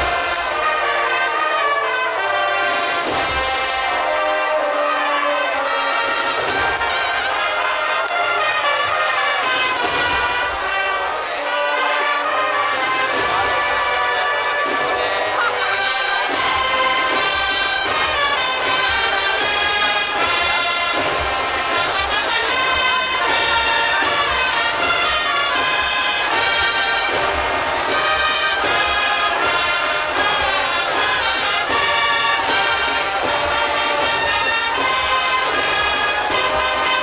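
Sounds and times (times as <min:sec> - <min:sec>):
steady drum beat: 0:00.0 - 0:11.2, 0:11.9 - 0:37.0
brass band playing a march: 0:00.0 - 0:37.0.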